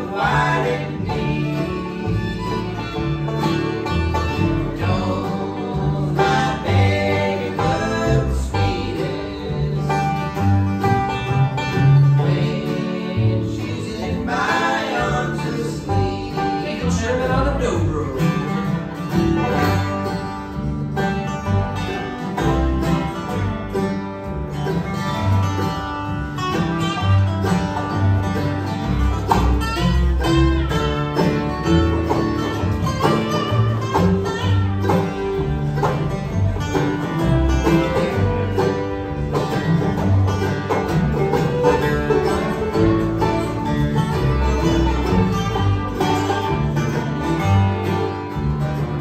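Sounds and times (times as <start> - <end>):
banjo picking: 0.0 - 49.0
bluegrass band playing: 0.0 - 49.0
guitar picking: 0.0 - 49.0.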